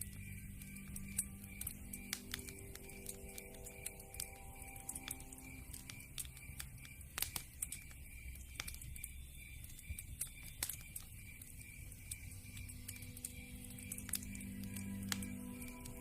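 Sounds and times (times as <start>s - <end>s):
burning logs popping: 0.0s - 16.0s
soft low music notes: 0.0s - 16.0s
wood fire crackling: 0.0s - 16.0s.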